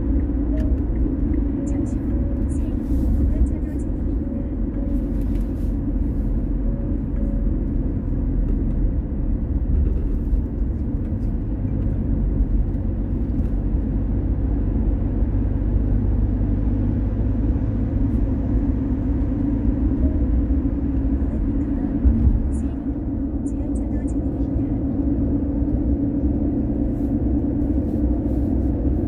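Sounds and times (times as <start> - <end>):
car driving along a road: 0.0 - 29.0.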